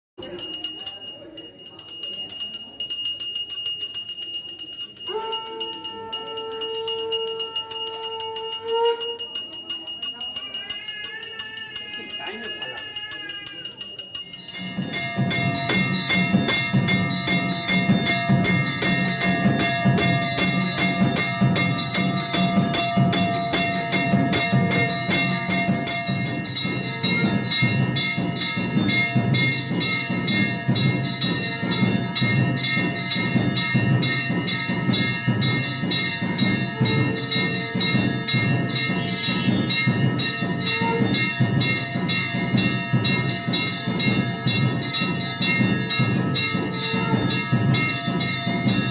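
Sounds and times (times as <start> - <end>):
temple bells ringing rapidly: 0.2 - 48.9.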